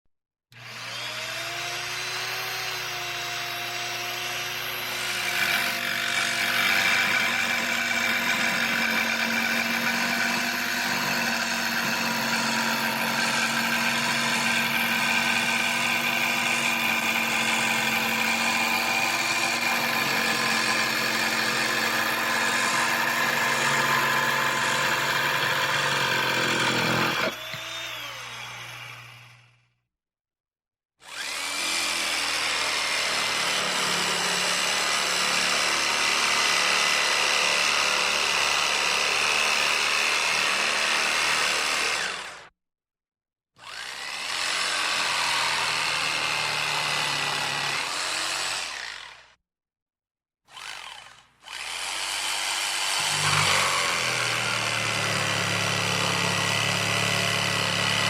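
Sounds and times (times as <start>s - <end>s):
electric jigsaw motor whining: 0.5s - 29.8s, 31.0s - 42.5s, 43.6s - 49.4s, 50.5s - 58.0s.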